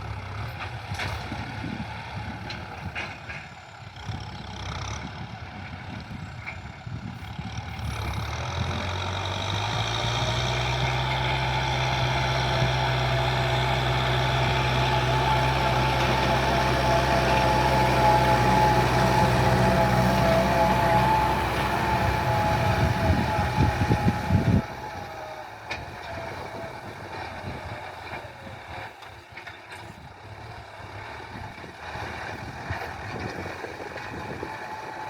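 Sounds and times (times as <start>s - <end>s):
diesel tractor engine running: 0.0s - 35.0s.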